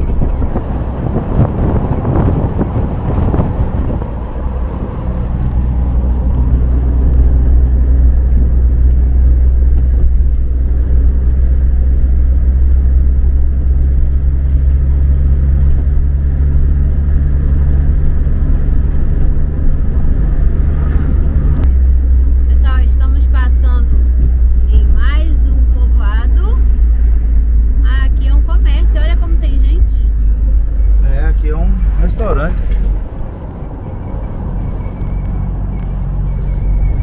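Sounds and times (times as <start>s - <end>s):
van engine and road rumble: 0.0s - 37.0s.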